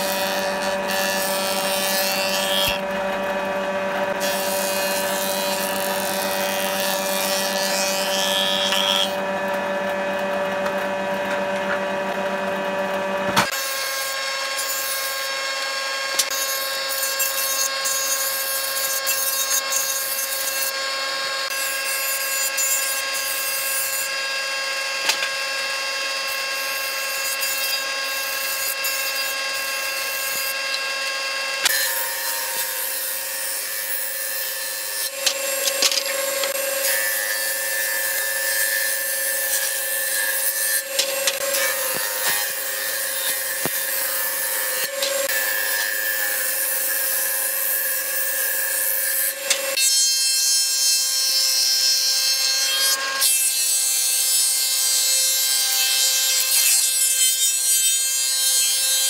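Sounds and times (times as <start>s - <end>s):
jointer motor whine: 0.0s - 50.8s.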